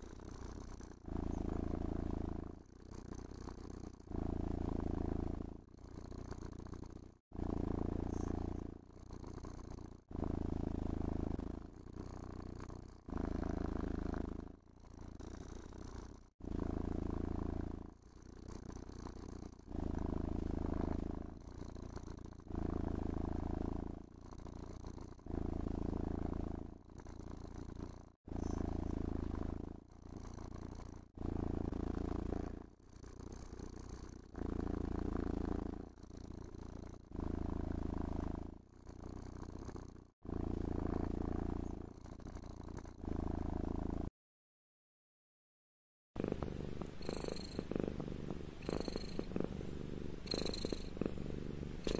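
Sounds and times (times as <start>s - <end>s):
cat purring: 0.0s - 44.1s, 46.2s - 51.9s.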